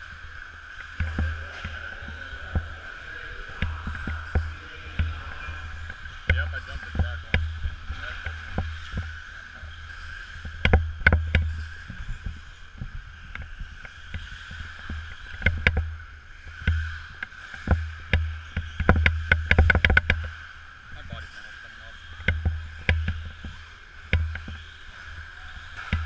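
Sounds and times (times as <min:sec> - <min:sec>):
rc buggies whining: 0:00.0 - 0:26.0.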